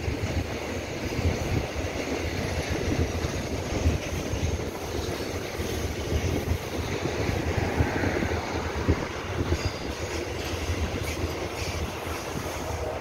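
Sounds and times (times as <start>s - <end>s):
freight train rumbling: 0.0s - 13.0s
steel wheels clattering on rails: 0.0s - 13.0s.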